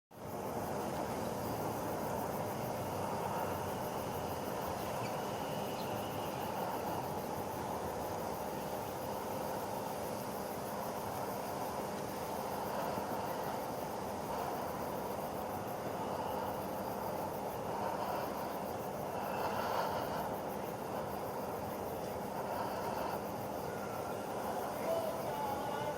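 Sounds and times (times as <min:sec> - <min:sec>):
outdoor background hum: 0:00.1 - 0:25.9.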